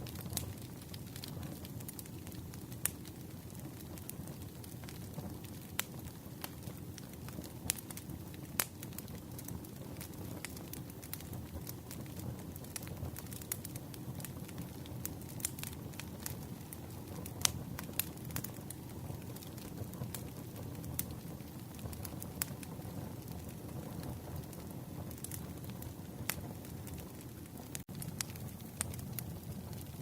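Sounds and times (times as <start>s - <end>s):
burning wood popping and crackling: 0.0s - 30.0s
campfire flames rumbling: 0.0s - 30.0s.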